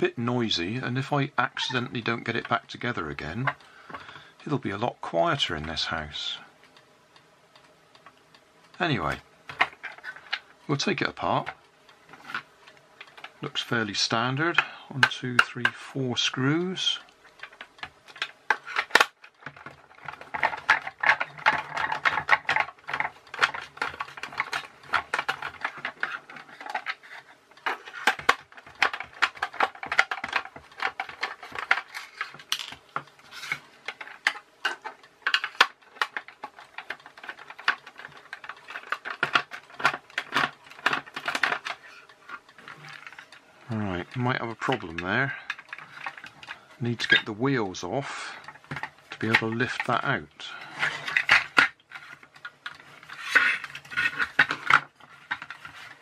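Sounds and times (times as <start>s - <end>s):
plastic toy parts clicking and rattling: 1.0s - 4.6s, 7.6s - 56.0s.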